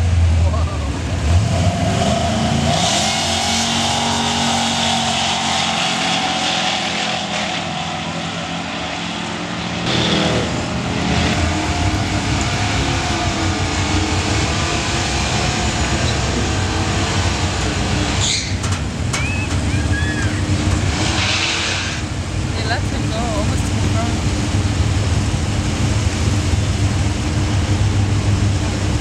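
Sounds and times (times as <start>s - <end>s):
car engine rumbling: 0.0s - 29.0s
drag car engines running: 0.0s - 29.0s.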